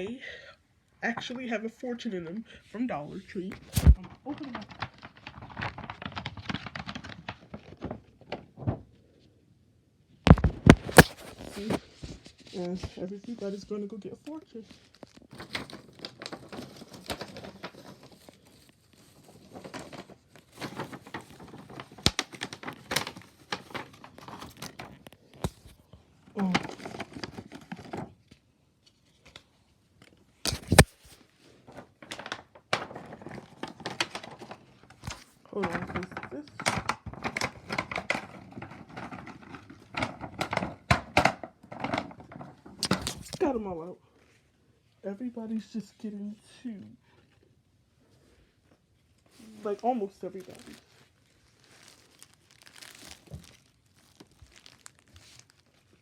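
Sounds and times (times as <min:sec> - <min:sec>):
plastic packaging crinkling: 0:03.5 - 0:08.7, 0:10.3 - 0:13.6, 0:14.2 - 0:43.6, 0:49.0 - 0:56.0.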